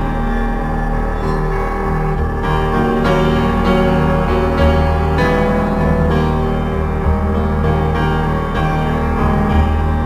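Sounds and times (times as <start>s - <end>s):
piano chords: 0.0s - 10.0s.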